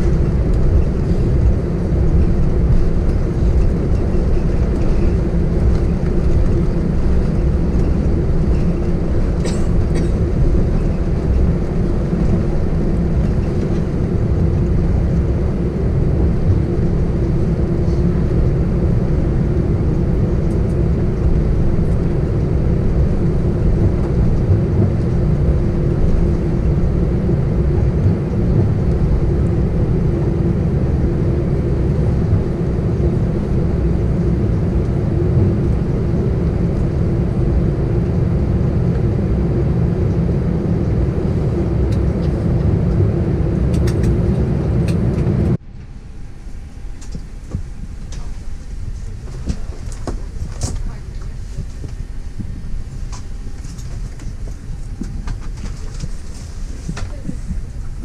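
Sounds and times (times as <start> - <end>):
cabin hum: 0.0 - 58.0
jet engines idling rumble: 0.0 - 58.0.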